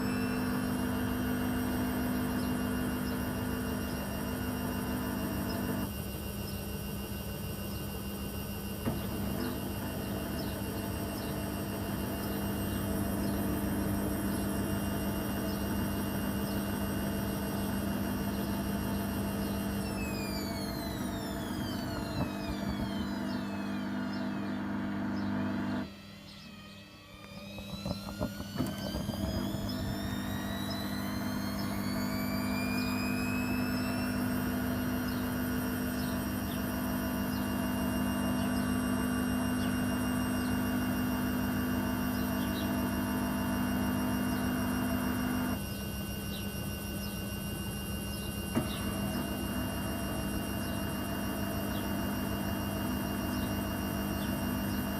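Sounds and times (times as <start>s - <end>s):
washing machine motor whine: 0.0s - 54.9s.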